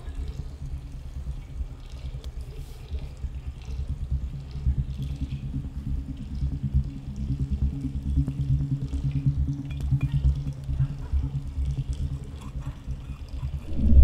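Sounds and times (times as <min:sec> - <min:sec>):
faint water drips: 0:00.0 - 0:14.0
muffled running water: 0:00.0 - 0:14.0.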